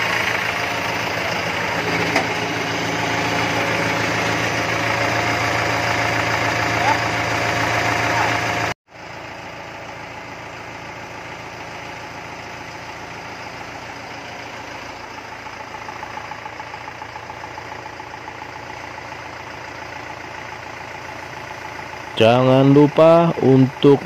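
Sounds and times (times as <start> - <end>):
tractor diesel engine idling: 0.0 - 24.0.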